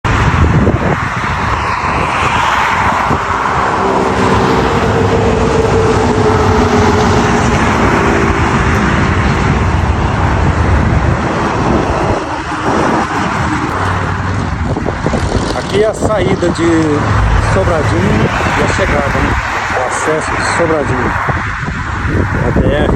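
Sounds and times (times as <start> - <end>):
engine hum: 0.0 - 22.2
tyre and wind rush: 0.0 - 22.9.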